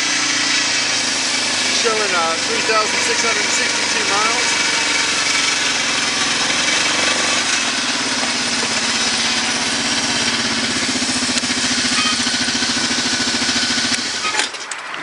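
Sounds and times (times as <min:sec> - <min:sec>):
atv engine idling: 0:00.0 - 0:14.5.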